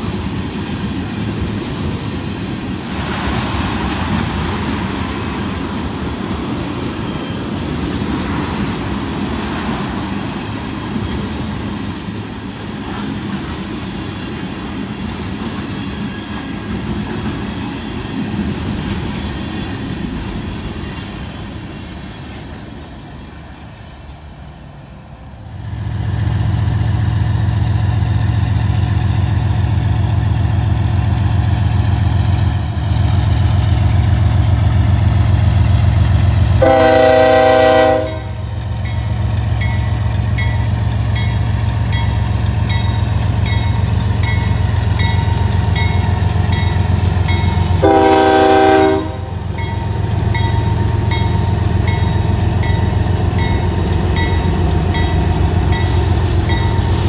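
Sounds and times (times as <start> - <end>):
diesel locomotive engine humming: 0.0 - 57.0
freight train rolling on rails: 0.0 - 57.0.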